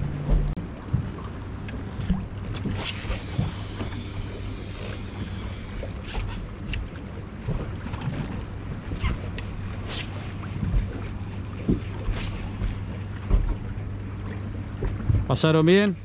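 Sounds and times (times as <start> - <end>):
outboard motor running: 0.0 - 16.0
wind over water: 0.0 - 16.0.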